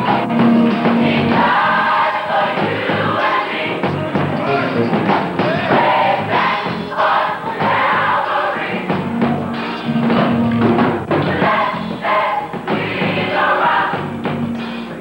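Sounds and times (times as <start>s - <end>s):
choir singing: 0.0s - 10.4s, 11.1s - 15.0s.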